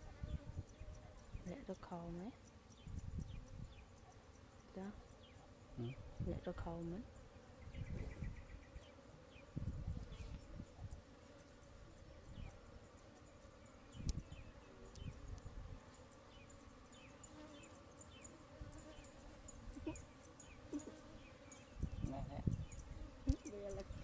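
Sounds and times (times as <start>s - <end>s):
faint insect buzzing: 0.0s - 24.0s.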